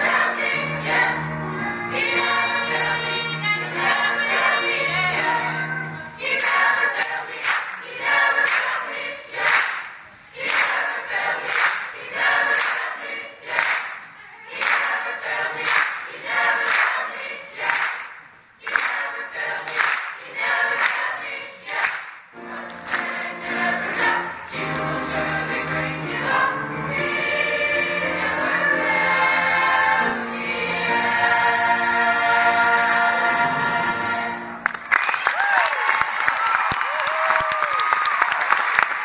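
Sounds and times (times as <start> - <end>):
mixed choir singing gospel: 0.0 - 34.8.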